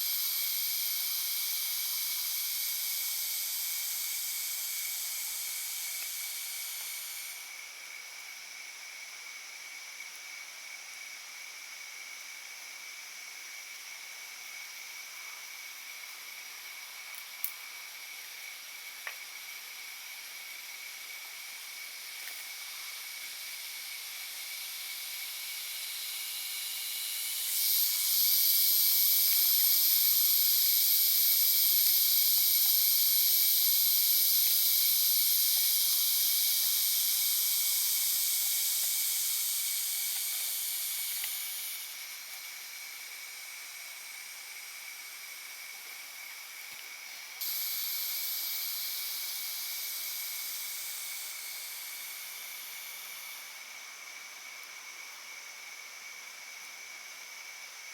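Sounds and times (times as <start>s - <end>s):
high-pitched insect chorus: 0.0s - 57.9s.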